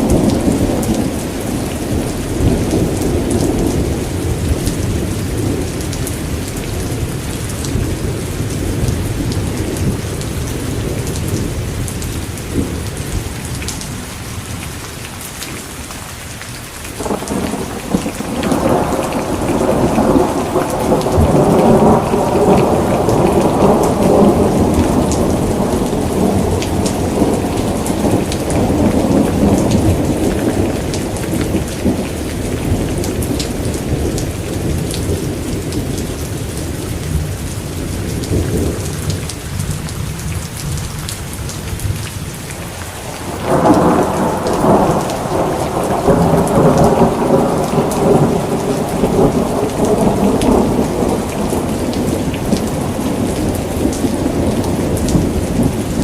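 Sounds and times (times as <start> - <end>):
rolling thunder: 0.0 - 13.3, 17.0 - 40.0, 42.9 - 56.0
steady rain falling: 0.0 - 56.0.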